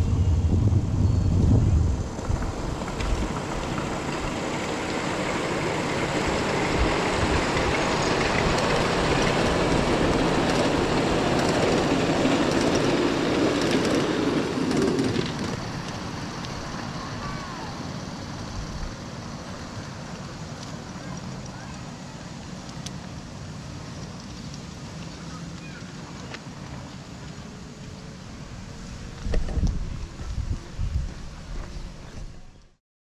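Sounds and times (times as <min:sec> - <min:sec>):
miniature train wheels rumbling: 0:00.0 - 0:32.8.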